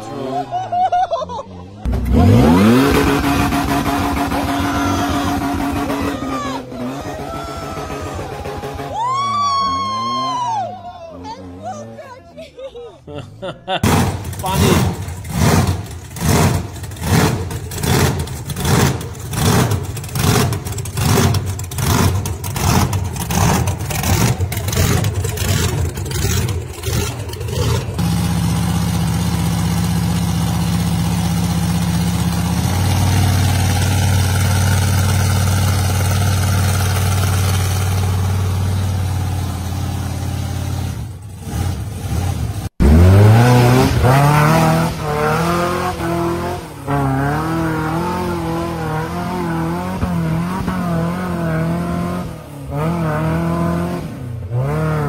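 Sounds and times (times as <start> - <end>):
monster truck engine: 0.0 - 55.0
engine revving with rising pitch: 1.8 - 12.0, 13.9 - 55.0.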